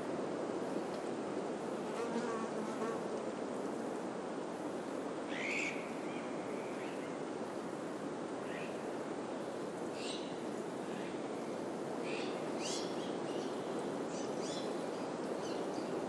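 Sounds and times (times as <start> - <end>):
wind through pine trees: 0.0 - 16.0.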